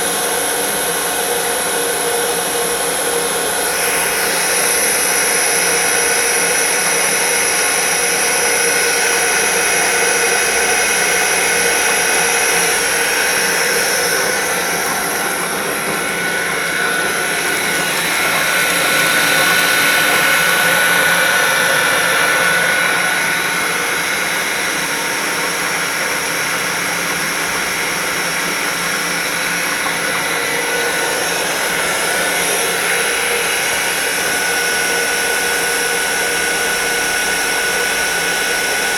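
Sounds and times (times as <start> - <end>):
water pump whining: 0.0 - 38.9.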